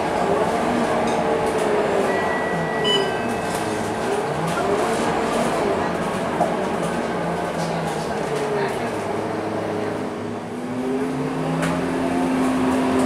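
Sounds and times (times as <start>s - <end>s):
bus drivetrain whine: 0.0s - 13.0s
bus engine running: 0.0s - 13.0s
road noise: 0.0s - 13.0s.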